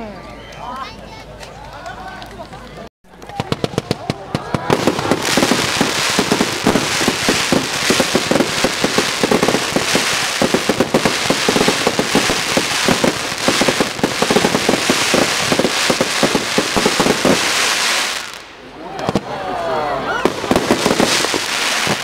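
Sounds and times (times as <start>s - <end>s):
fireworks bangs and crackles: 3.1s - 19.5s, 20.1s - 22.0s.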